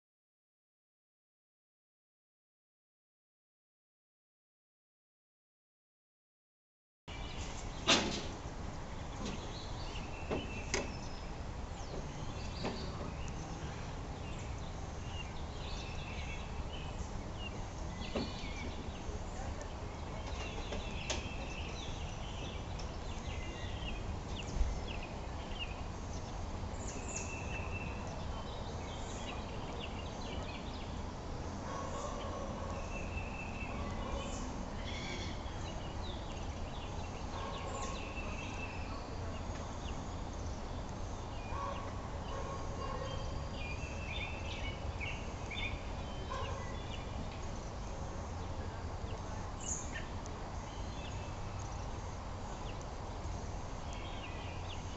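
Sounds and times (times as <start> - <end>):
small birds chirping: 7.1 - 54.9.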